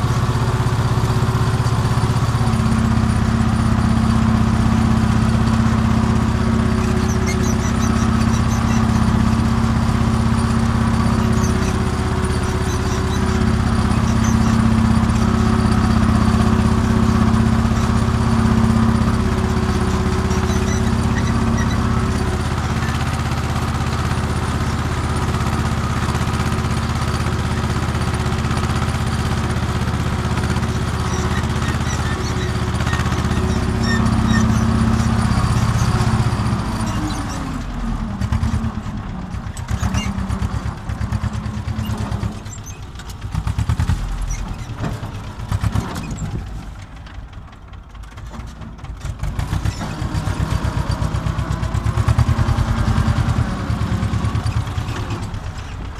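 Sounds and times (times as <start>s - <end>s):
tractor engine running under load: 0.0s - 55.9s.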